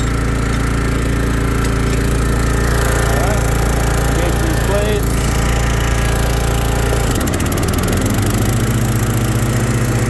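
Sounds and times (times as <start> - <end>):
mower blades spinning: 0.0 - 10.0
mower engine running: 0.0 - 10.0.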